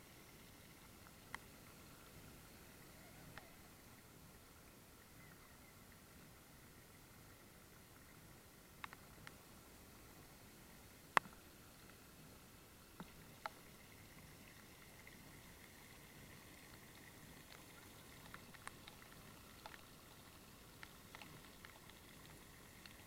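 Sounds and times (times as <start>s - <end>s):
small clicks and ticks: 0.0s - 4.0s, 7.6s - 12.1s, 12.8s - 23.0s
faint steady hiss: 0.0s - 23.0s.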